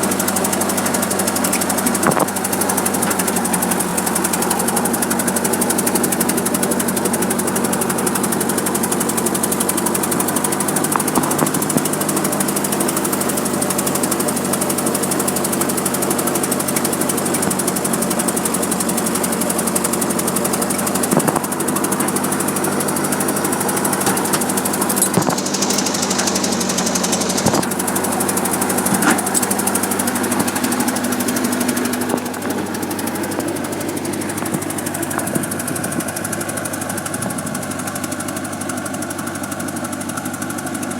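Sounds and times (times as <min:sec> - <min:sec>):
loader engine running: 0:00.0 - 0:40.9.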